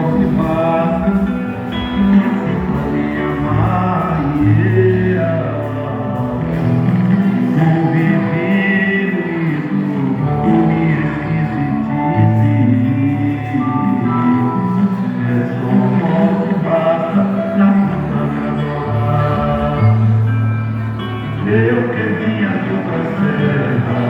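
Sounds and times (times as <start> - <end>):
live band music: 0.0 - 24.0
person singing: 0.0 - 24.0
plucked guitar: 0.0 - 24.0.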